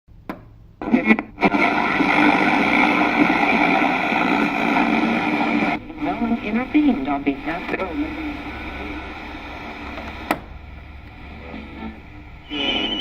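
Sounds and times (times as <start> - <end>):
radio static crackling: 0.8 - 13.0
radio static hiss: 0.8 - 13.0.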